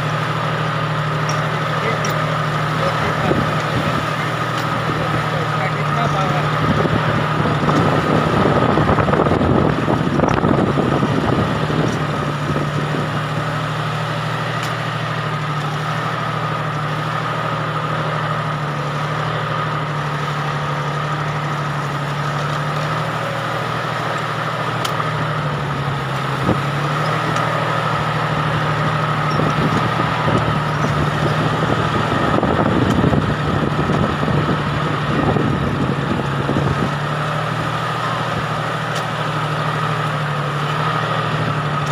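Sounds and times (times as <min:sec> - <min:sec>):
tractor engine with whine: 0:00.0 - 0:41.9.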